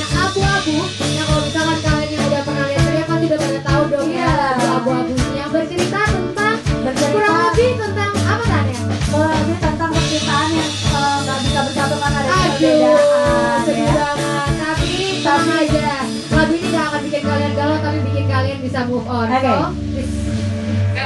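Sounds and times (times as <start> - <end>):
woman singing into microphone: 0.0 - 18.4
backing music with drums: 0.0 - 21.0.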